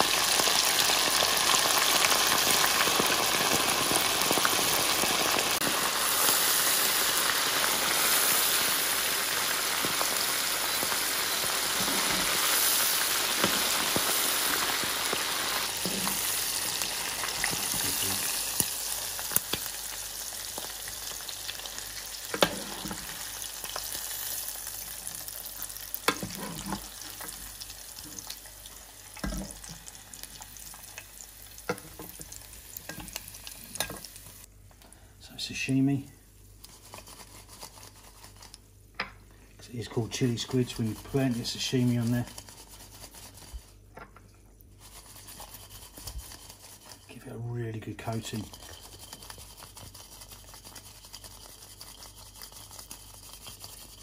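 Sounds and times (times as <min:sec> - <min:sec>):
food deep-frying in oil: 0:00.0 - 0:34.5, 0:44.6 - 0:54.0.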